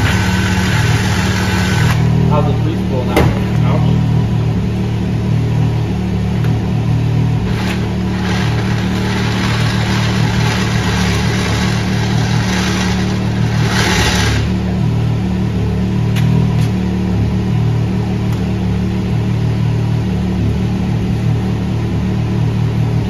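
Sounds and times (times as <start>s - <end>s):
utility vehicle engine idling: 0.0s - 23.0s.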